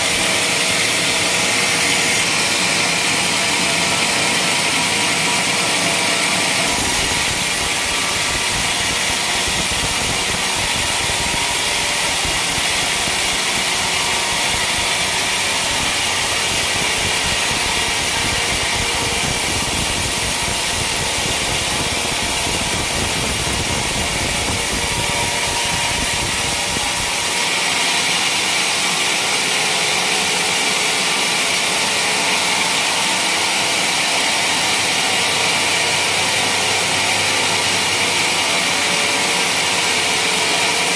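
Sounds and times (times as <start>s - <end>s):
sawmill machine sawing a beam: 0.0s - 40.9s.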